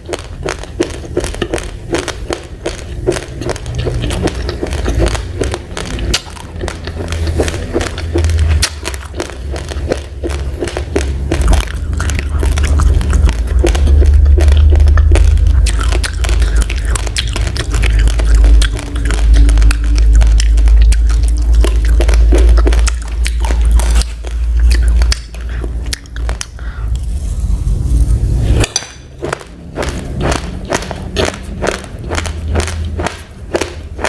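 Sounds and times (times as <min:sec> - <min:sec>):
rice being crunched and chewed: 0:00.0 - 0:34.0
steady low rumble: 0:00.0 - 0:34.0.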